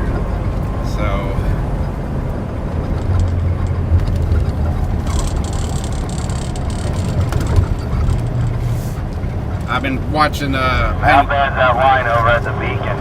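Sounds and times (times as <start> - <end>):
diesel truck engine drone: 0.0 - 13.0
road noise: 0.0 - 13.0.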